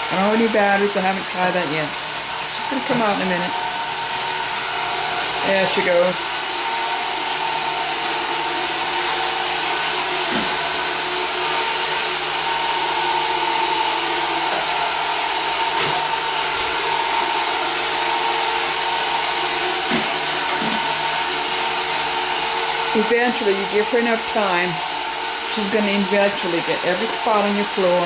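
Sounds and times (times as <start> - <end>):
robot vacuum whirring: 0.0 - 28.0.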